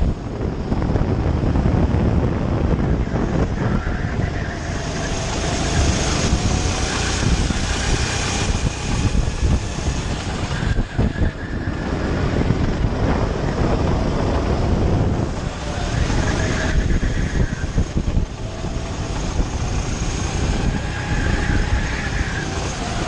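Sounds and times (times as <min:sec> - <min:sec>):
kart engine running: 0:00.0 - 0:23.0
wind buffeting microphone: 0:00.0 - 0:23.0.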